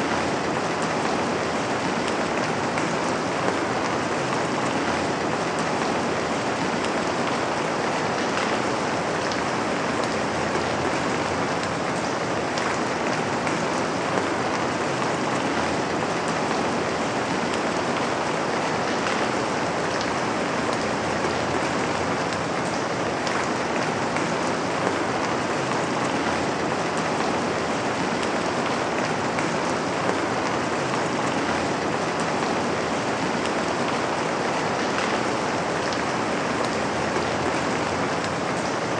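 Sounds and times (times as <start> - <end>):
rain pattering on window: 0.0 - 38.9.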